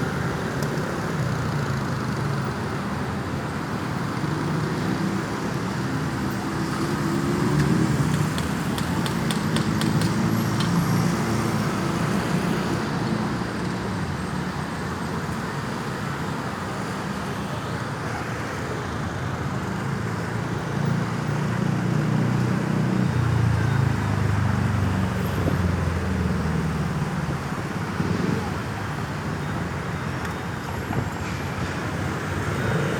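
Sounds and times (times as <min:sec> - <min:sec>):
road traffic: 0:00.0 - 0:32.9.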